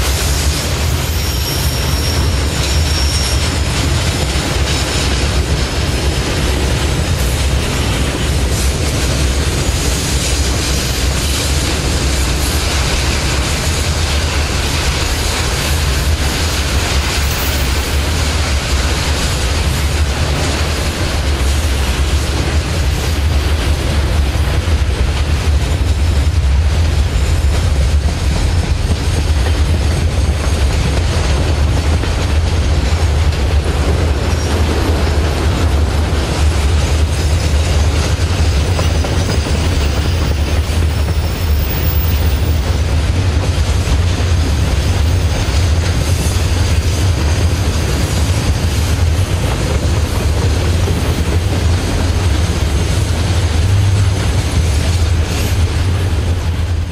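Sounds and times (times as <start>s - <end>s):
freight wagons rolling on rails: 0.0s - 56.9s.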